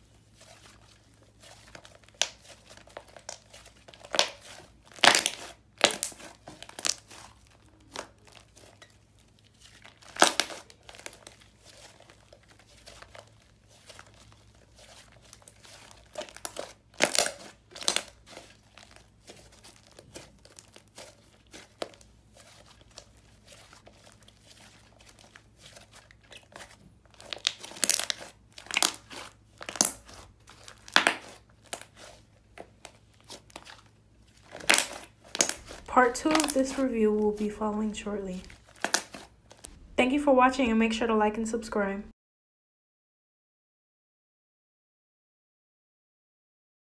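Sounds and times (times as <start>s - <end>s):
hands squishing slime: 0.0s - 39.8s
sticky slime popping and crackling: 0.3s - 39.9s.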